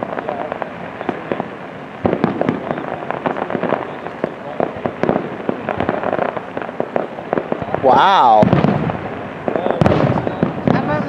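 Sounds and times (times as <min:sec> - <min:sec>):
firework bangs: 0:00.0 - 0:11.0
firework crackling: 0:00.0 - 0:11.0.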